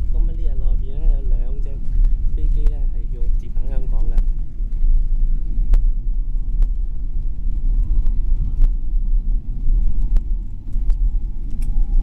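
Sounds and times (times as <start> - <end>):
low rumble inside aircraft cabin: 0.0 - 12.0
sharp clicks and rattles: 0.0 - 12.0.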